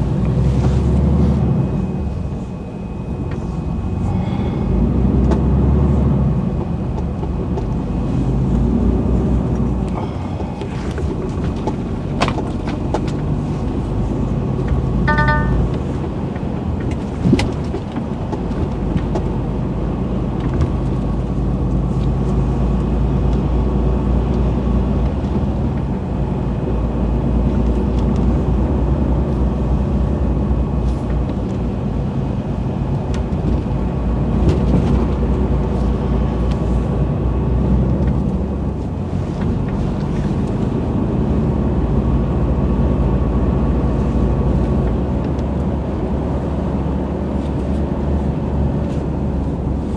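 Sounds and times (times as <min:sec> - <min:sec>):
road noise: 0:00.0 - 0:49.9
truck engine drone: 0:00.0 - 0:49.9.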